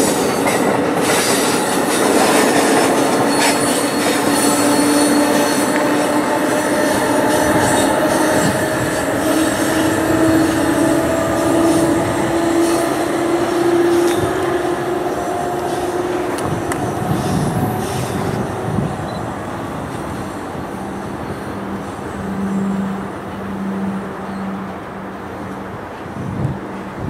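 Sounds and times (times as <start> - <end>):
train wheels whining: 0.0 - 24.8.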